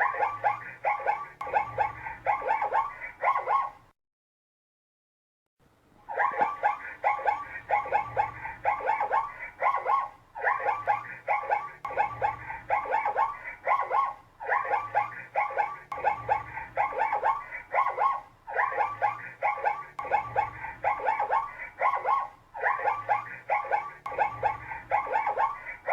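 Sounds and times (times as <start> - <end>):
short repeated yelping calls: 0.0 - 3.9, 6.0 - 25.9.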